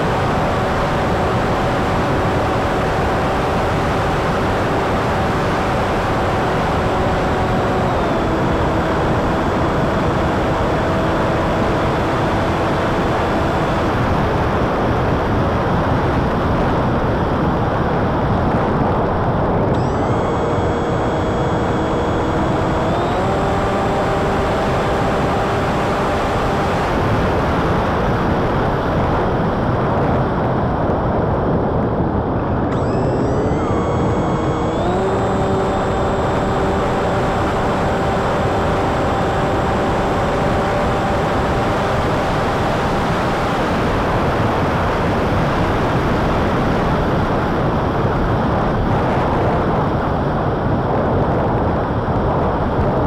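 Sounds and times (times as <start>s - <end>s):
electric motor whine: 0.0s - 16.7s, 17.6s - 28.6s, 32.5s - 50.2s.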